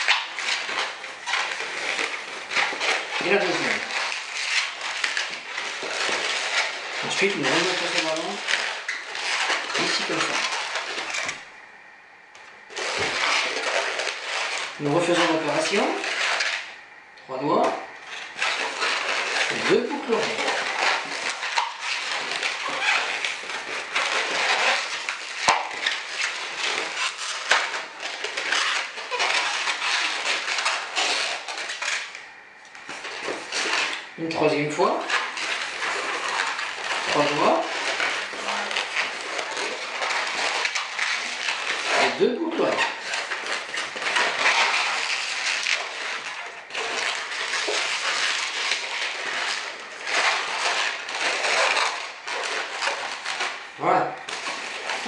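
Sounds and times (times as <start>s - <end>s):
balloon squeaking and rubbing: 0.0s - 11.7s, 12.6s - 55.0s.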